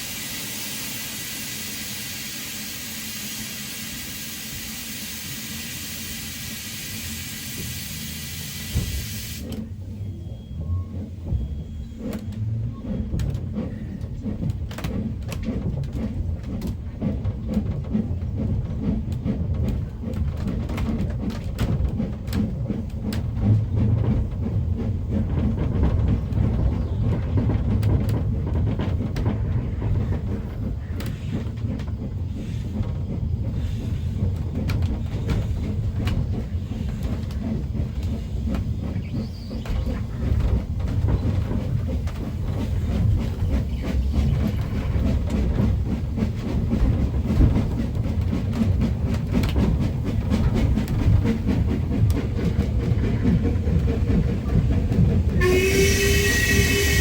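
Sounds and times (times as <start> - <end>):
railway carriage rumbling on track: 0.0 - 57.0
wheels clicking on rails: 0.0 - 57.0.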